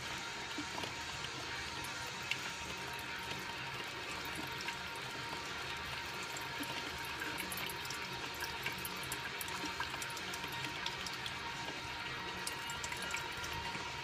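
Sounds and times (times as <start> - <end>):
hot water trickling into carafe: 0.0 - 14.0
small drips and ticks: 0.0 - 14.0.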